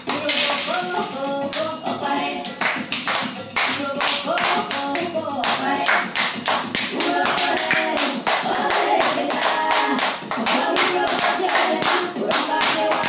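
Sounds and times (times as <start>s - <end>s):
hand-clapping: 0.0s - 1.7s, 2.4s - 13.0s
person singing: 0.0s - 13.0s.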